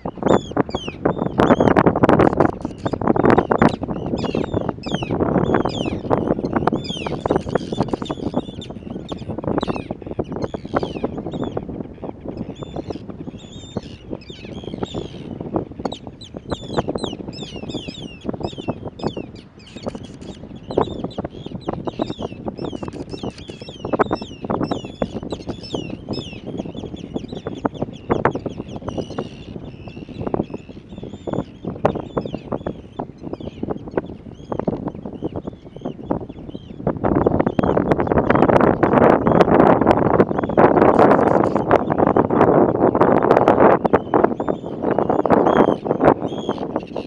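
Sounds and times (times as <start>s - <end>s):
many birds chirping: 0.0s - 47.0s.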